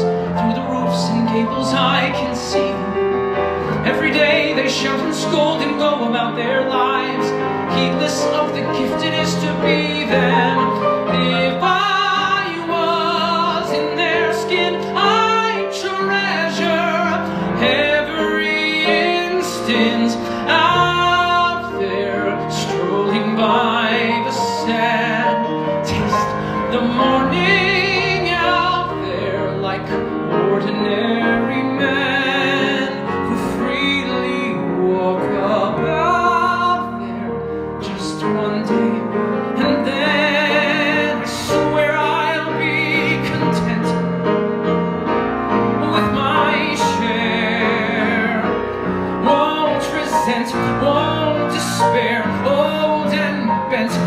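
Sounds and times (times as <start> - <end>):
grand piano: 0.0 - 54.0
man singing a ballad: 0.0 - 54.0.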